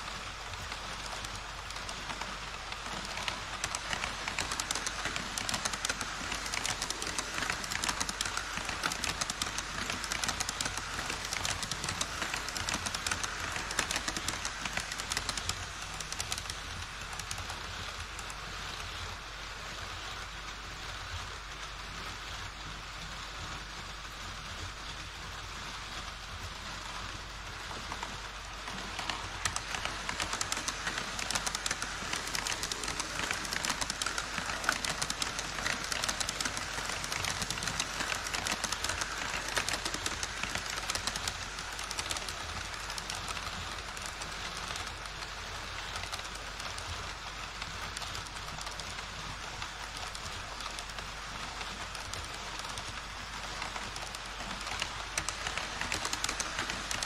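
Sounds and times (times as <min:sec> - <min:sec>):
model train wheels clicking: 0:00.0 - 0:57.0.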